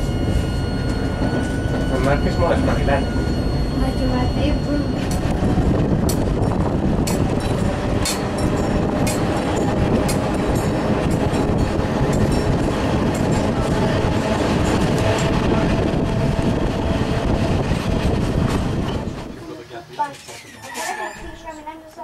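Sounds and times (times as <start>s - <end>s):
electric train rumbling on track: 0.0s - 22.0s.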